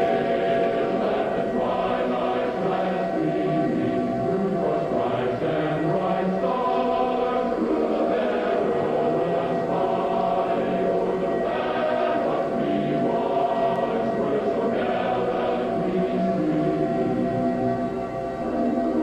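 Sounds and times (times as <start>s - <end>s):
choir singing an anthem: 0.0s - 19.0s.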